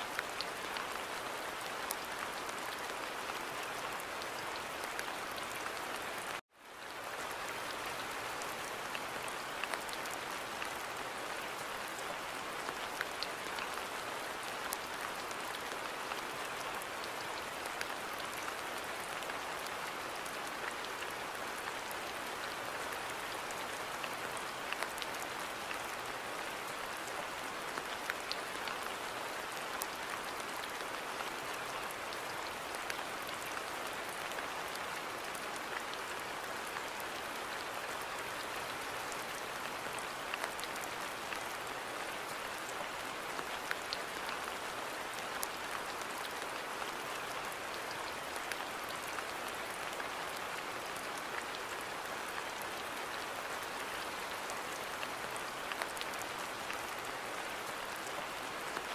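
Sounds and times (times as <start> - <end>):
rain patter: 0.0 - 58.9.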